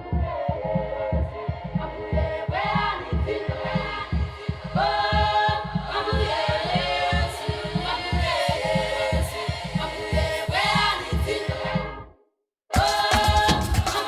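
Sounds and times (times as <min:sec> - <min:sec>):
steady drum beat: 0:00.0 - 0:12.0, 0:12.7 - 0:14.0
group of voices singing: 0:00.0 - 0:12.1, 0:12.7 - 0:14.0.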